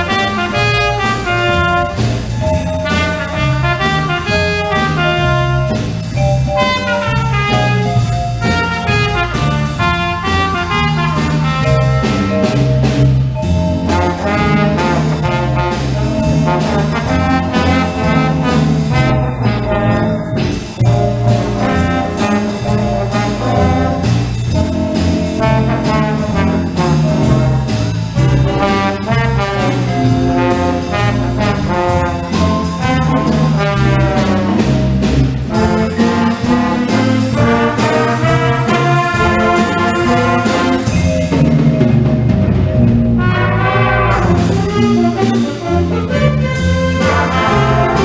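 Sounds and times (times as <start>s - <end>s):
school band playing: 0.0s - 48.0s
steady percussion: 0.0s - 48.0s
trombones and trumpets: 0.0s - 48.0s.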